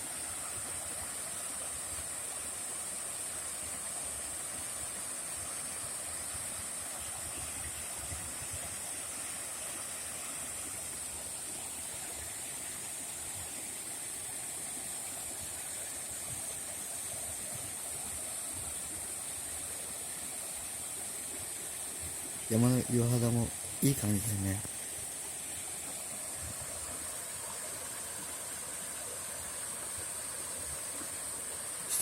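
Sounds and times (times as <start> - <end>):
high hiss: 0.0 - 32.0.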